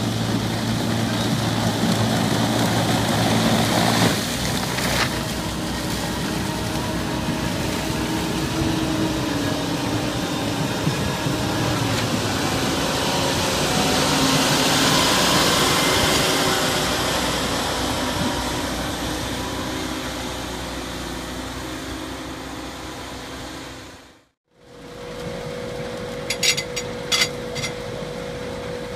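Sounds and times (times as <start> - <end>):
harvester engine and machinery: 0.0 - 28.9.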